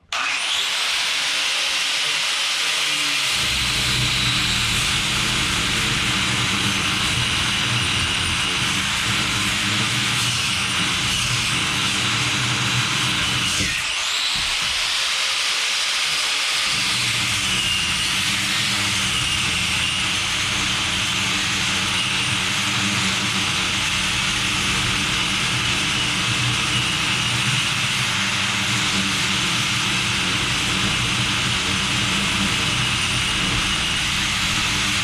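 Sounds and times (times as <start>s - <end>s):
power tool whining: 0.0s - 35.0s.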